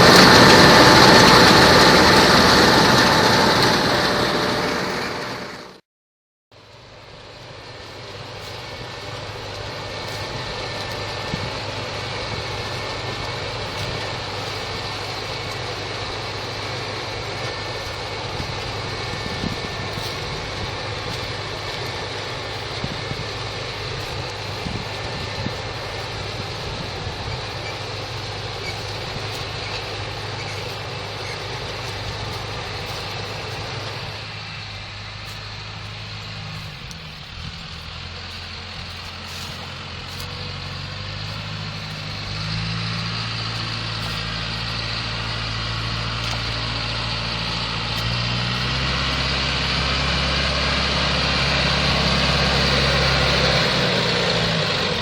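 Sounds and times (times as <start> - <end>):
harvester machinery noise: 0.0 - 5.8, 6.5 - 55.0
tractor engine hum: 0.0 - 5.8, 6.5 - 55.0.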